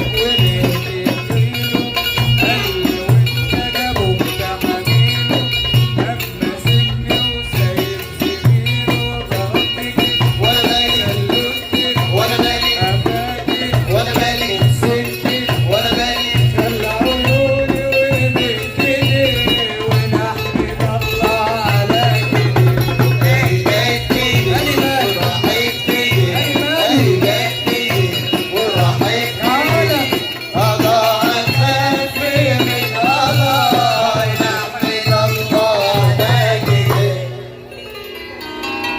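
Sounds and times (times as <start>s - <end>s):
man singing: 0.0s - 37.7s
rattling hand percussion: 0.0s - 38.9s.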